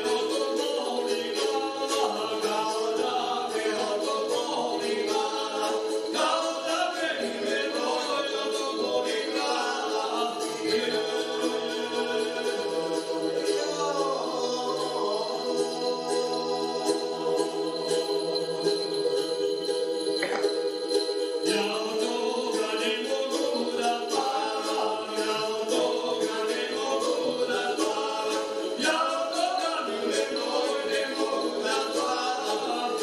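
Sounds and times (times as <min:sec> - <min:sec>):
person singing folk melody: 0:00.0 - 0:33.0.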